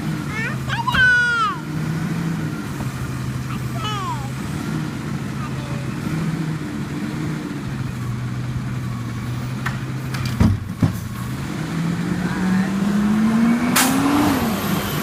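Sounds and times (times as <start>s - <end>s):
truck engine idling and revving: 0.0s - 15.0s.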